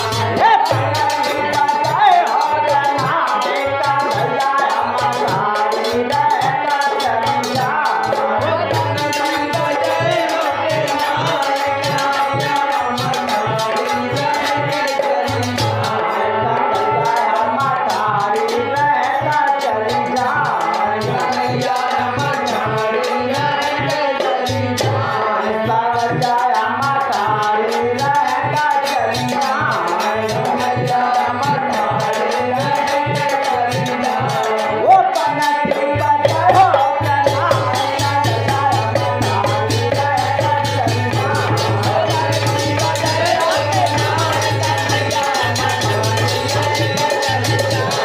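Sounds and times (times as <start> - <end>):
dense rattling percussion: 0.0 - 48.0
fast drum beat: 0.0 - 48.0.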